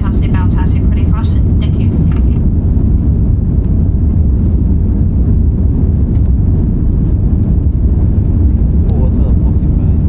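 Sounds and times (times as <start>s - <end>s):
airflow over fuselage: 0.0s - 10.0s
jet engines at climb power: 0.0s - 10.0s.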